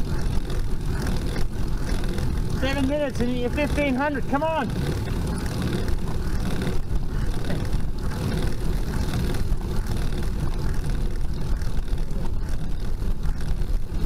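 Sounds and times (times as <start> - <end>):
bicycle tyre and road noise: 0.0 - 14.0
wind buffeting microphone: 0.0 - 14.0.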